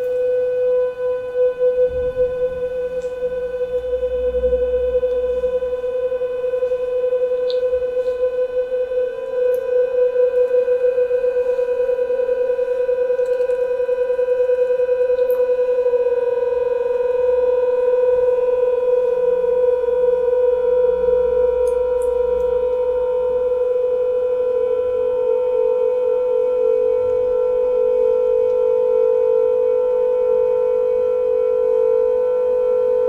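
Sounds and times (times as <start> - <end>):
phones playing sine tone: 0.0 - 33.0.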